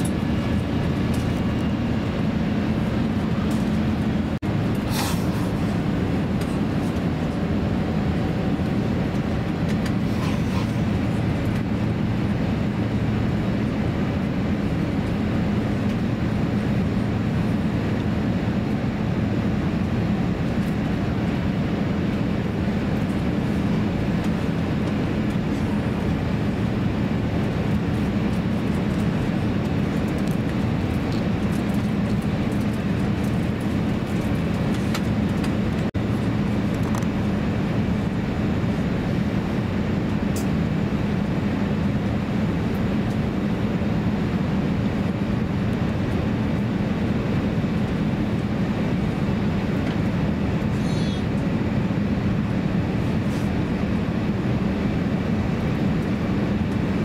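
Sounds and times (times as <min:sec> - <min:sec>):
airplane cabin roar: 0:00.0 - 0:57.0.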